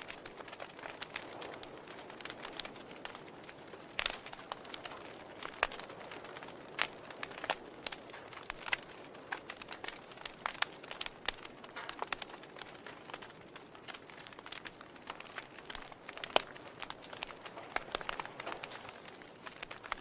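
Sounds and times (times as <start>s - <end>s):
soft fire hiss: 0.0s - 20.0s
wood fire pops and snaps: 0.0s - 20.0s.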